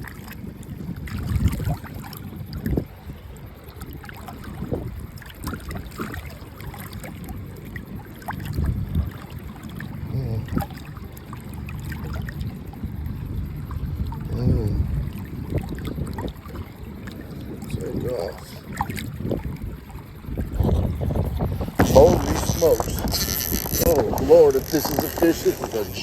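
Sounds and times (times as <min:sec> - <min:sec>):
water lapping against boat hull: 0:00.0 - 0:26.0
wind on microphone: 0:00.0 - 0:26.0.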